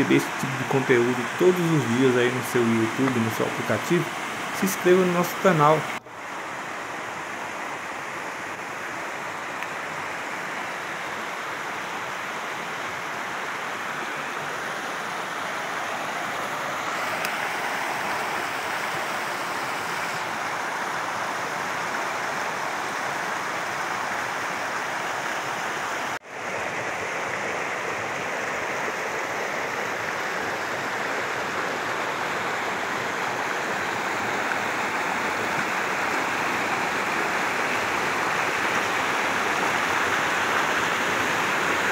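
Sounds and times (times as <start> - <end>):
floodwater rushing: 0.0 - 41.9.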